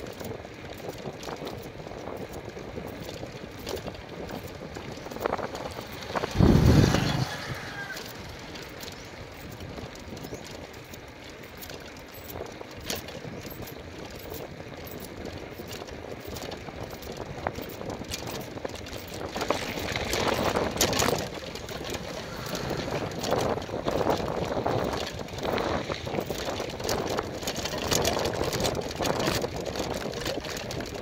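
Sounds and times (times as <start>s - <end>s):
wind rushing over microphone: 0.0s - 10.6s, 16.0s - 31.0s
road noise from riding: 0.0s - 31.0s.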